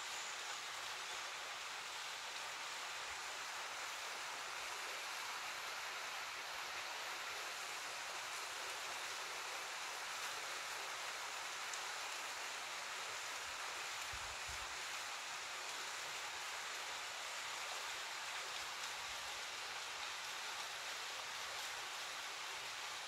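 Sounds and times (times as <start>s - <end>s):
small waterfall pouring: 0.0s - 23.0s.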